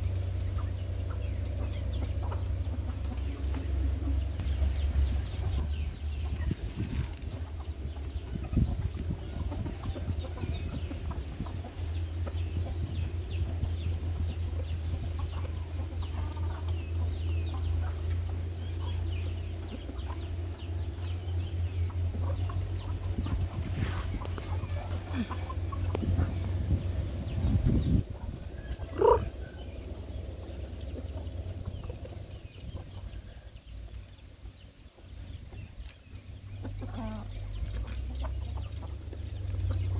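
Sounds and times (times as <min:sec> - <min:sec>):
chicks clucking and chirping: 0:00.0 - 0:39.9
low rumble: 0:00.0 - 0:39.9.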